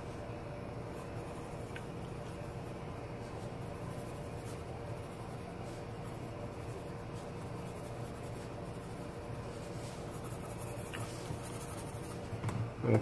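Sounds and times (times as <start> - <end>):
steady low hum: 0.0 - 13.0
pencil sketching on paper: 0.8 - 12.3.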